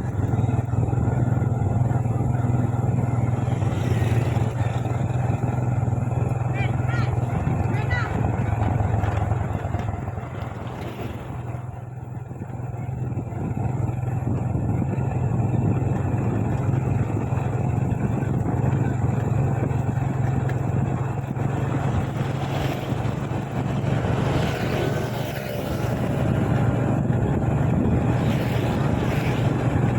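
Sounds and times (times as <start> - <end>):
motorbike engine running: 0.0 - 29.9
road noise: 0.0 - 29.9.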